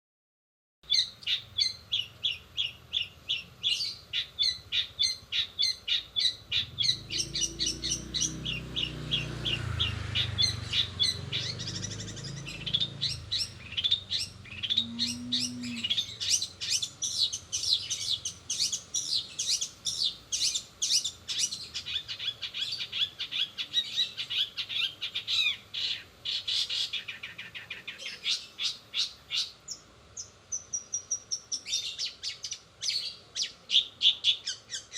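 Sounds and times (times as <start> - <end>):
bird singing sharp chirps and trills: 0.9 - 34.9.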